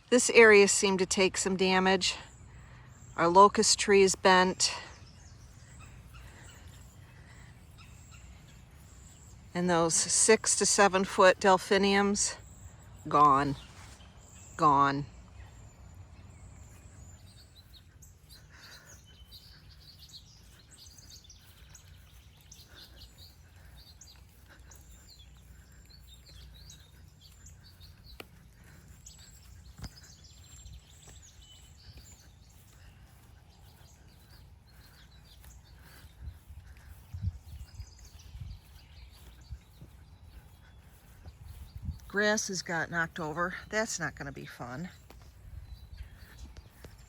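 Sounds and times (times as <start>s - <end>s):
birds chirping and calling: 0.0s - 47.0s.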